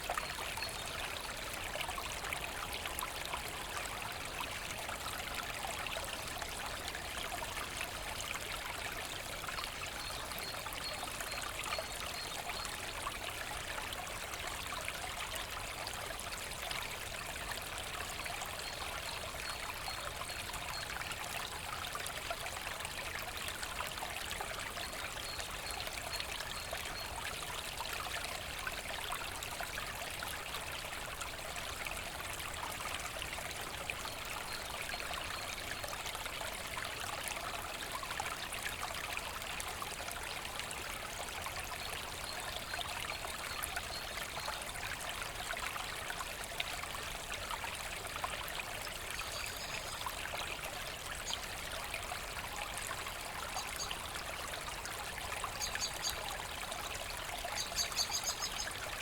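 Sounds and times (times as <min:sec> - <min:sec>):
brook running over stones: 0:00.0 - 0:59.0.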